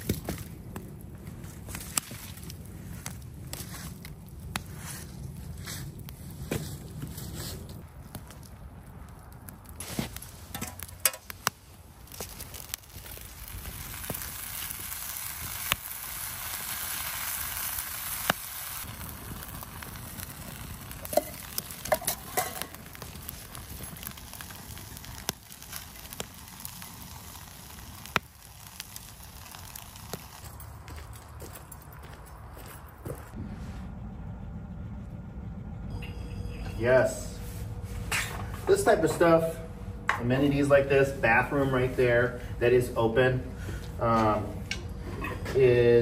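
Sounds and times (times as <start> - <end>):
campfire hissing and crackling: 0.0 - 32.7, 36.8 - 46.0.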